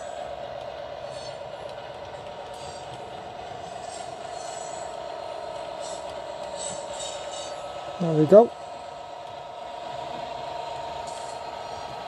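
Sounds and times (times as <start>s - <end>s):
model train mechanical hum: 0.0s - 12.0s
wheels squeaking on rails: 0.0s - 12.0s.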